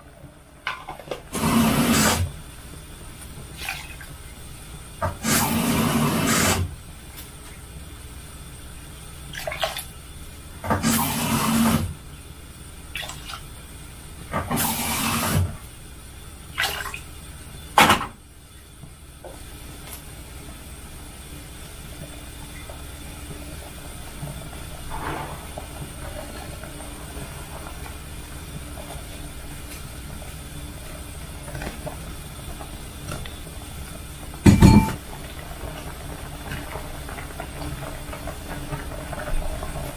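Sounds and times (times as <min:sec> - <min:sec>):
pot heating hiss: 0:00.0 - 0:39.9.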